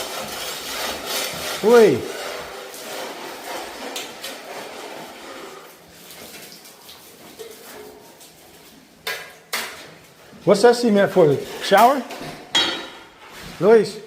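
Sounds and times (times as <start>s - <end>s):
hand tool scraping and rubbing: 0.0s - 8.9s, 10.1s - 14.0s.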